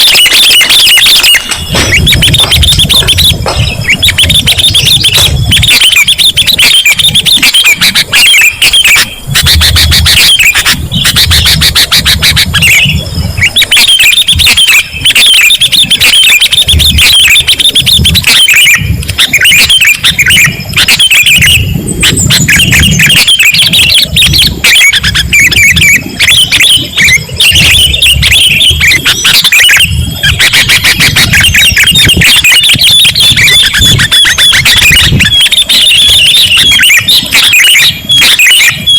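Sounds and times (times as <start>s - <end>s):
bird chirping and chattering: 0.0s - 38.9s.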